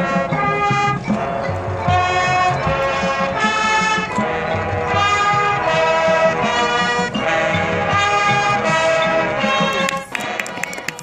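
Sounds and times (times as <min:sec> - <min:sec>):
steady low drum beat: 0:00.0 - 0:10.2
marching band brass chords: 0:00.0 - 0:11.0.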